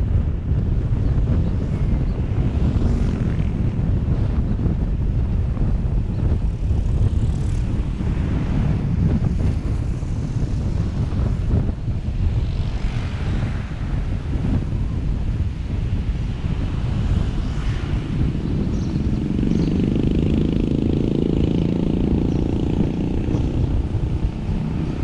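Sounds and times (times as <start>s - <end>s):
low road rumble: 0.0s - 25.0s
wind buffeting microphone: 0.0s - 25.0s.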